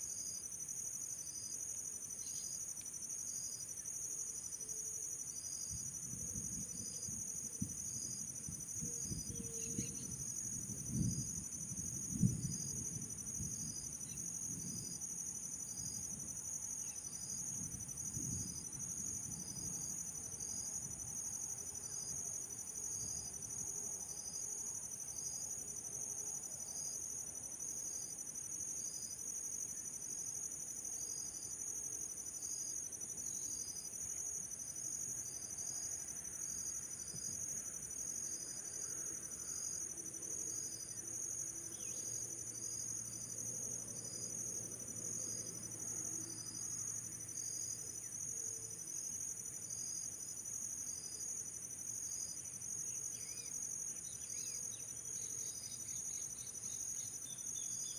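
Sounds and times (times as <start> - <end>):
insects trilling: 6.0 - 25.8, 26.4 - 57.9.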